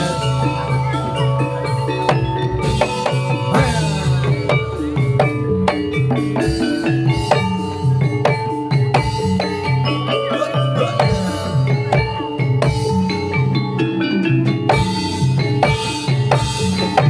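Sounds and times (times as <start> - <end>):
gamelan music over loudspeakers: 0.0 - 17.0.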